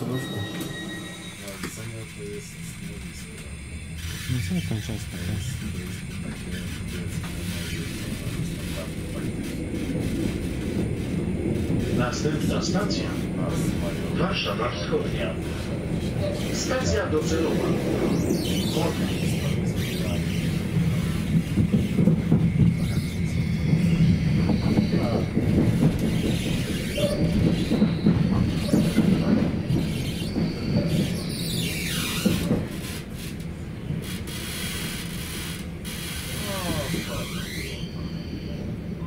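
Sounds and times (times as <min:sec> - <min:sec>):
train rumbling and rattling: 0:00.0 - 0:39.0.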